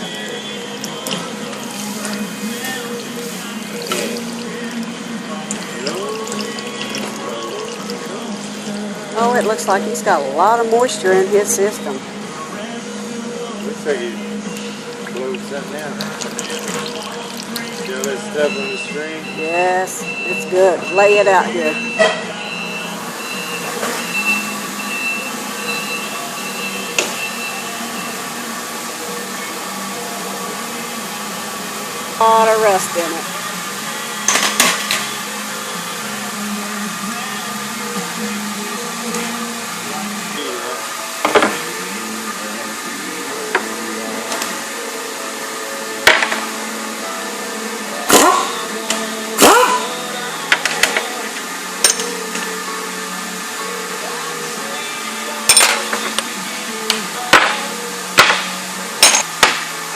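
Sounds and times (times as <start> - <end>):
mechanical hum: 0.0 - 59.9.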